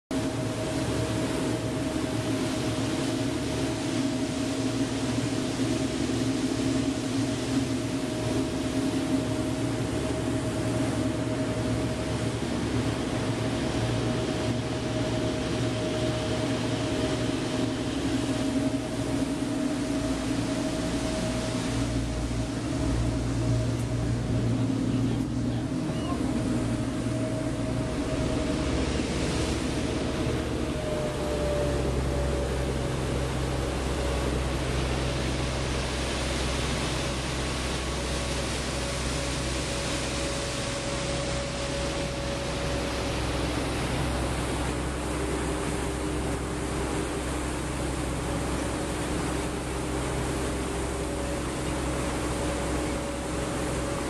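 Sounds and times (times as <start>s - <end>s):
boat engine drone: 0.1s - 54.0s
steady whine: 0.1s - 54.0s
water noise: 0.1s - 54.0s
wind: 0.1s - 54.0s.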